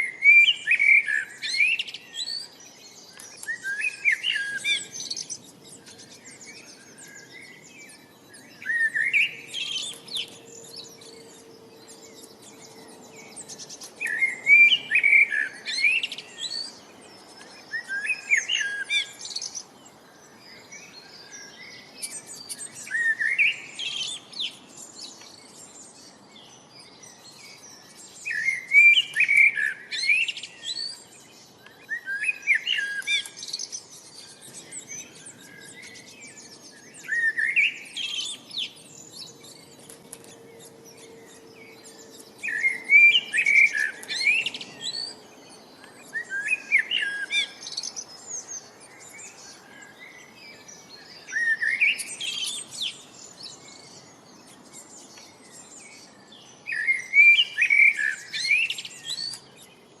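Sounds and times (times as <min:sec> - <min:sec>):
bird chirping: 0:00.0 - 1:00.0.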